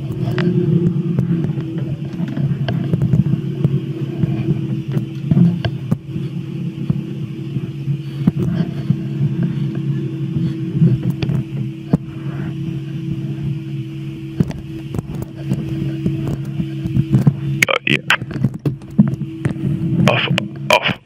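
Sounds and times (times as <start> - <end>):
helicopter cabin hum: 0.0 - 21.0.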